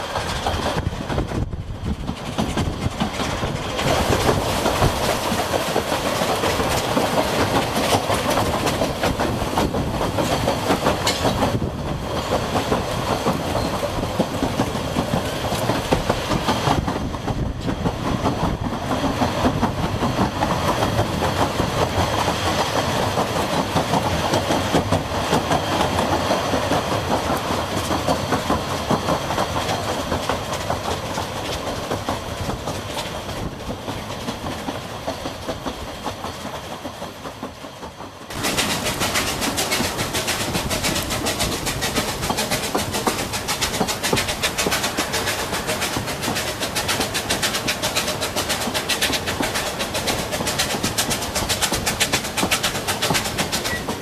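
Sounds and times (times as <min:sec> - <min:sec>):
steam locomotive working: 0:00.0 - 0:54.0
train wheels clattering over rails: 0:00.0 - 0:54.0.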